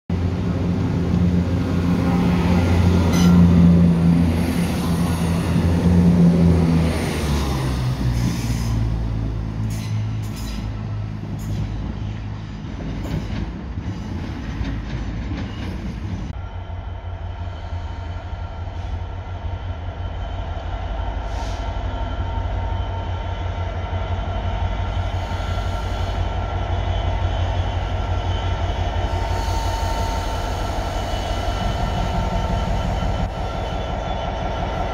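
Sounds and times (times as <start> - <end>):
train engine rumble: 0.1 - 34.9.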